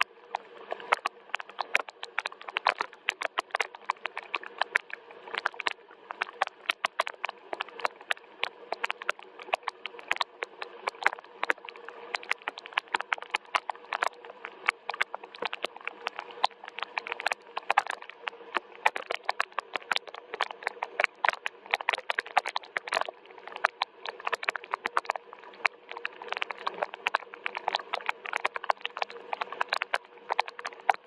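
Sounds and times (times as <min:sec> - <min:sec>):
faint steady hum: 0:00.0 - 0:31.0
rain drops ticking on hard surface: 0:00.0 - 0:31.0.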